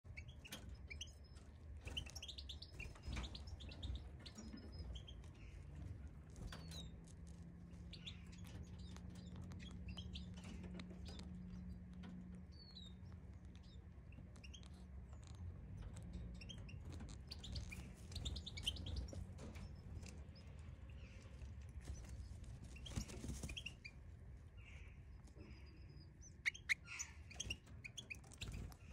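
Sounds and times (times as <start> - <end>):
low steady hum: 0.0 - 28.9
finches chirping: 0.1 - 7.1, 7.7 - 28.9.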